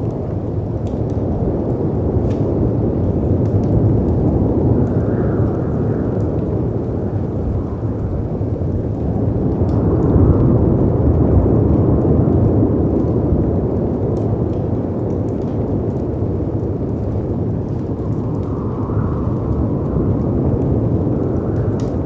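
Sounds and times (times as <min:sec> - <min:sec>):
rushing wind: 0:00.0 - 0:22.0
wood fire crackling: 0:00.0 - 0:22.0.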